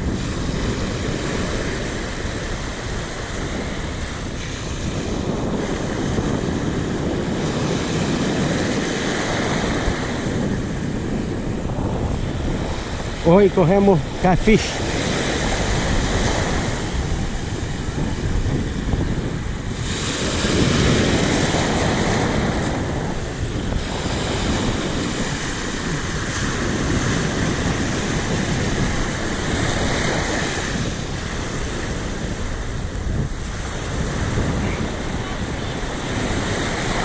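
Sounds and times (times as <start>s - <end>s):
surf breaking on beach: 0.0s - 37.0s
wind buffeting microphone: 0.0s - 37.0s.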